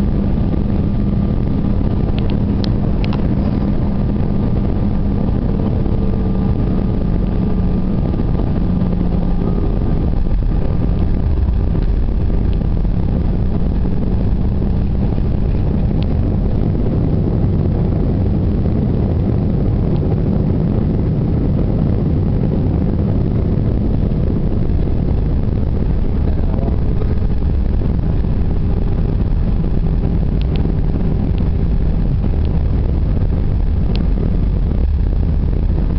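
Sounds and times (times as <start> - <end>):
low engine rumble in aircraft cabin: 0.0 - 35.9.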